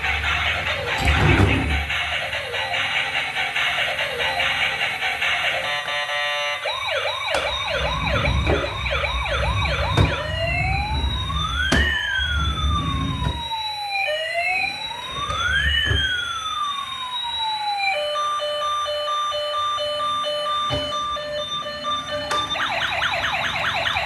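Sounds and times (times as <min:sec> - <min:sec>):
toy electronic siren: 0:00.0 - 0:24.0.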